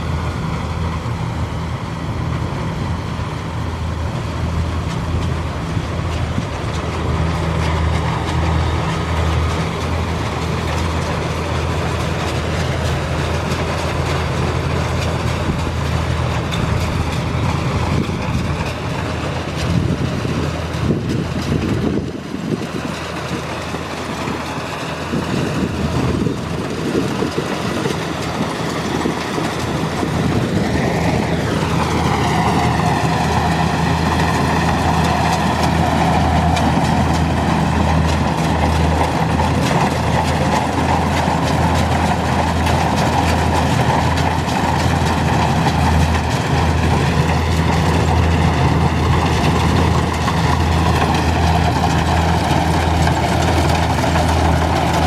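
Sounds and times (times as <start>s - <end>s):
combine harvester engine: 0.0s - 55.0s.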